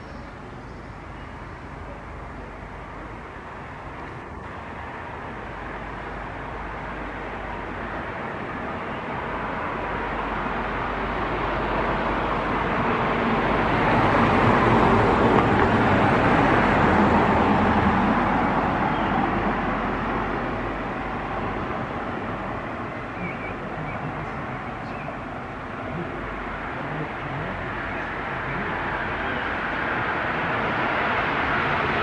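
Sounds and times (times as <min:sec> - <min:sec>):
vehicle passing by: 0:00.0 - 0:32.0.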